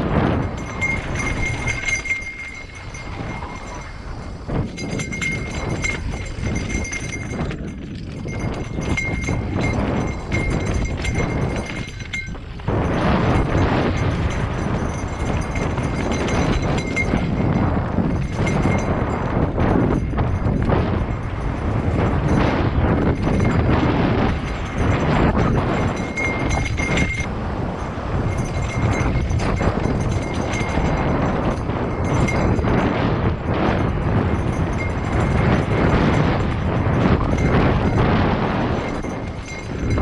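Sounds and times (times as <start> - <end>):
bike rattling and clattering: 0.0 - 40.0
wind on microphone: 0.0 - 40.0.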